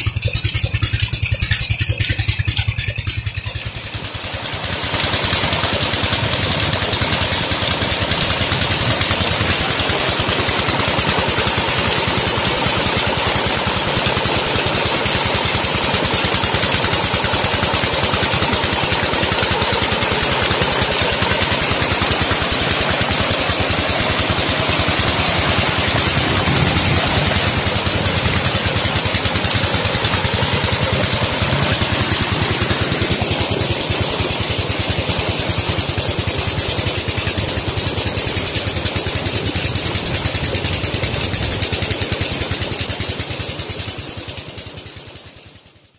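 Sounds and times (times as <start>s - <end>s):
diesel engine running: 0.0s - 45.2s
water gushing from pipe: 0.0s - 45.7s.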